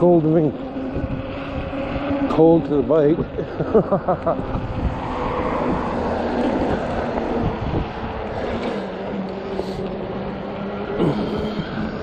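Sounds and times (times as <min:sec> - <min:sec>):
steady low hum: 0:00.0 - 0:12.0
tyre and road rush: 0:00.0 - 0:12.0
wind buffeting microphone: 0:00.0 - 0:12.0.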